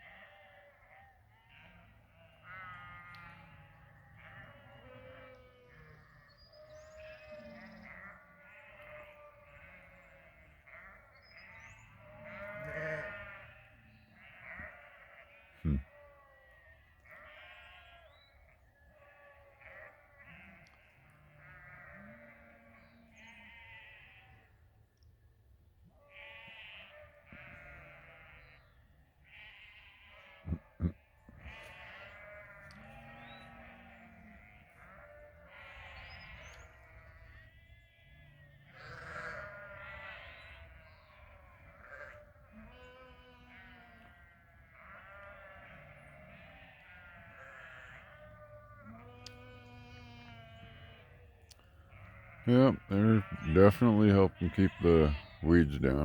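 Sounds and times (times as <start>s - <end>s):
sheep bleating: 0.0s - 24.5s, 26.0s - 56.0s.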